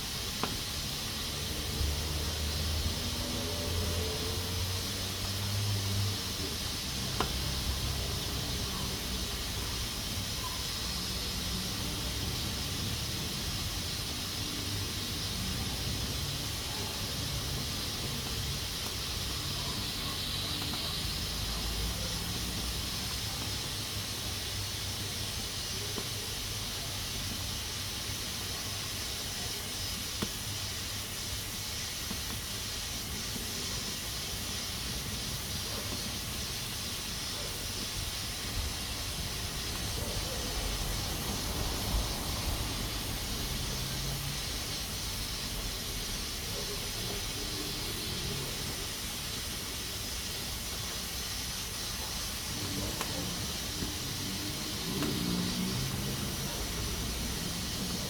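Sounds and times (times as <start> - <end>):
pressure cooker hissing: 0.0 - 58.0.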